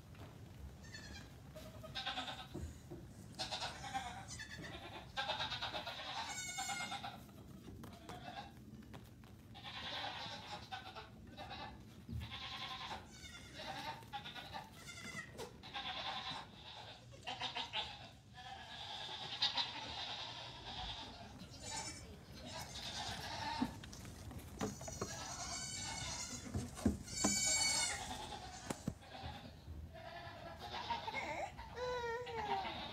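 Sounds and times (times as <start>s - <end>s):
goat kids bleating: 0.8s - 8.6s, 9.5s - 32.9s.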